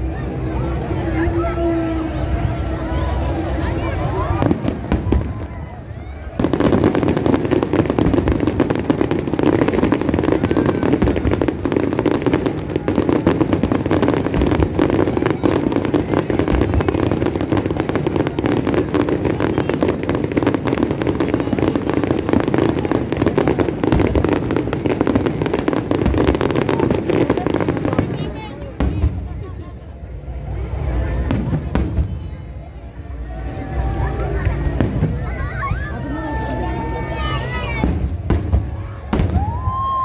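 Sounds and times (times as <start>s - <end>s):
fireworks bursts and crackling: 0.0s - 40.0s.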